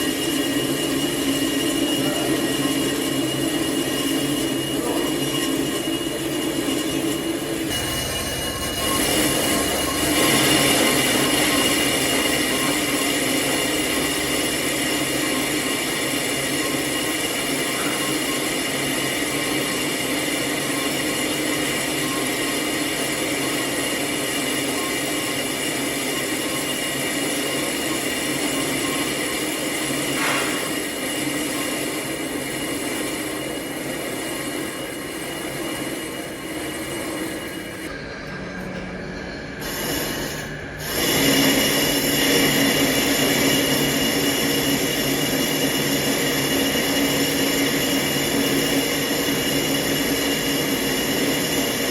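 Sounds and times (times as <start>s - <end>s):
lathe cutting metal squealing: 0.0s - 51.9s.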